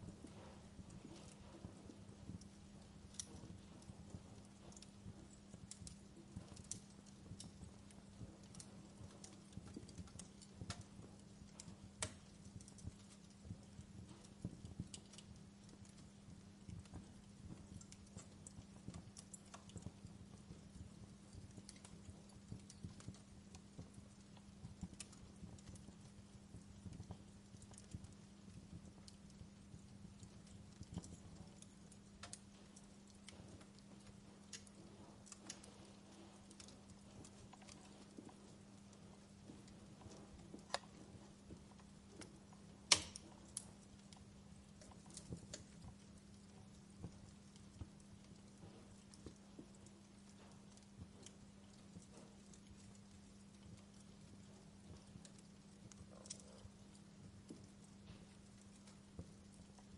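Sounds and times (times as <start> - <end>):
faint low hum: 0.0 - 59.9
wood fire crackling: 0.0 - 59.9.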